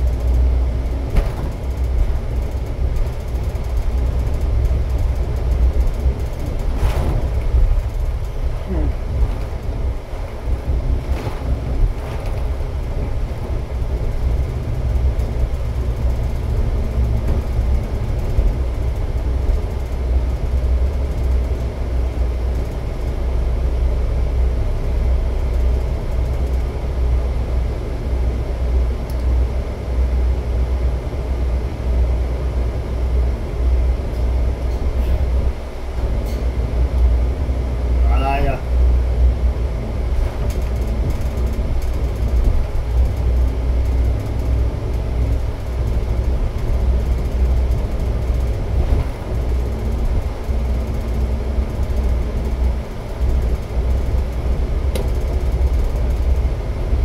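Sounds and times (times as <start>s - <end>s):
vehicle engine and tyre noise: 0.0s - 57.0s.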